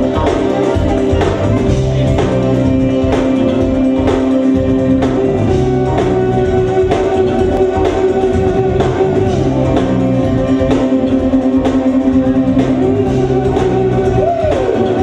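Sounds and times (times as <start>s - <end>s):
bass line: 0.0s - 15.0s
steady drum beat: 0.0s - 15.0s
sustained pitched notes: 0.0s - 15.0s.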